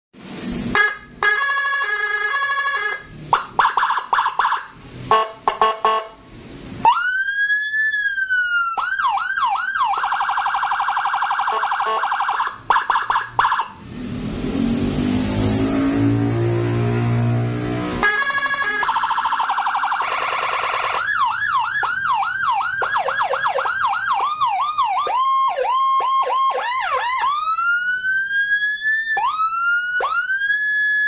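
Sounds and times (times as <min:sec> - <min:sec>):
police siren changing tones: 0:00.7 - 0:06.2, 0:06.8 - 0:31.0.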